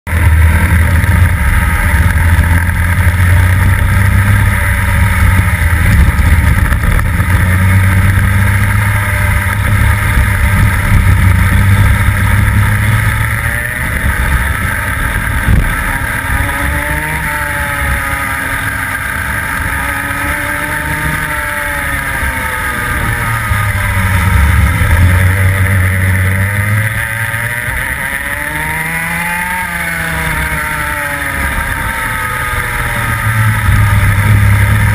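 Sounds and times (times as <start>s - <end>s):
kart engine revving: 0.1s - 34.9s.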